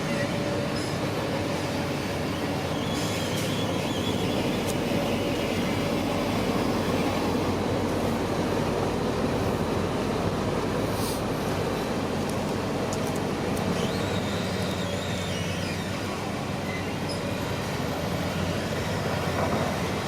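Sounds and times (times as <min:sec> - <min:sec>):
bulldozer engine and tracks: 0:00.0 - 0:20.0.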